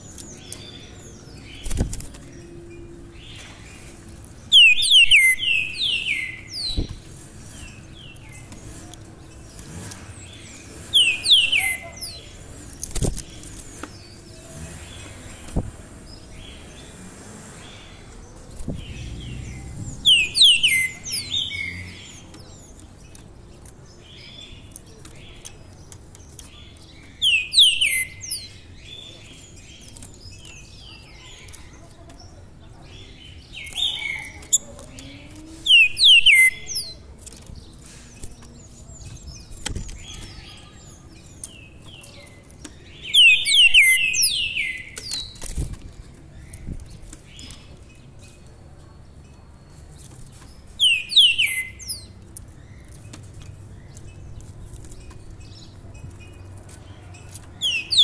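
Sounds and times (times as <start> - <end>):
caged songbird singing: 0.0 - 58.0
soft bird chirps: 0.0 - 58.0.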